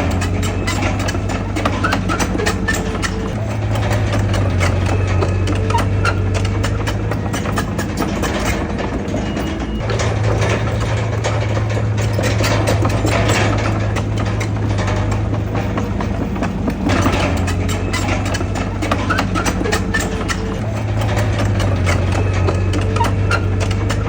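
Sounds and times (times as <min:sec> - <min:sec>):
clanks and rattles: 0:00.0 - 0:24.0
diesel engine running: 0:00.0 - 0:24.0.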